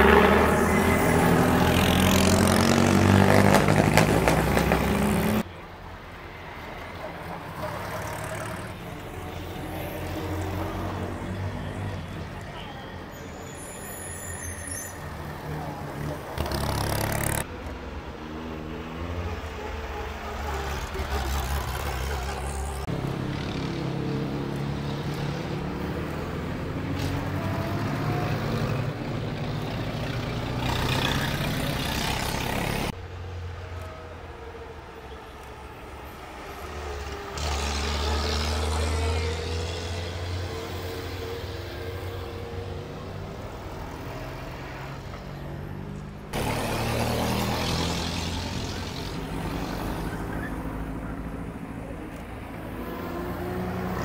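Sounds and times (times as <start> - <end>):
car engines driving past: 0.0 - 5.6, 13.4 - 54.0.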